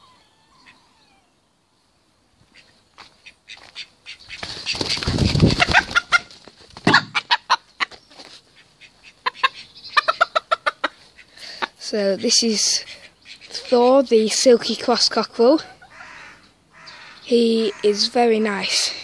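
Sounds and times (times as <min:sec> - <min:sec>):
chickens clucking: 0:02.4 - 0:19.0.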